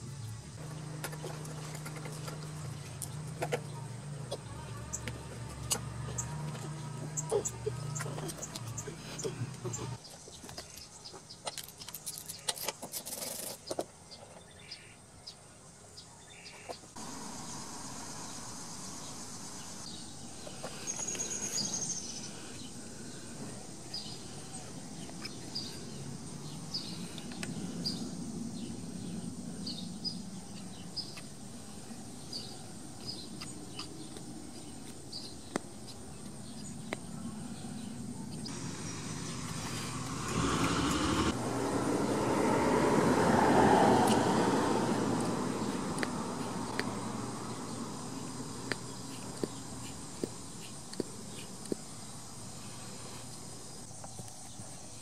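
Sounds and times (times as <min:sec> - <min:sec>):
small birds chirping: 0:00.1 - 0:41.4, 0:45.5 - 0:55.0.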